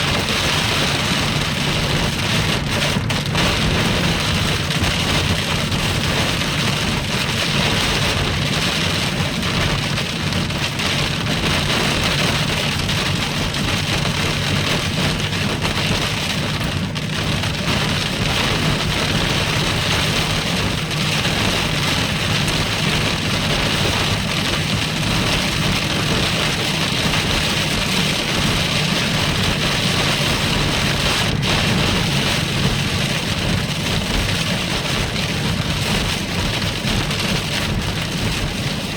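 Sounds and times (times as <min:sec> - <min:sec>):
car running and road noise: 0:00.0 - 0:38.9
heavy rain beating on a car: 0:00.0 - 0:38.9.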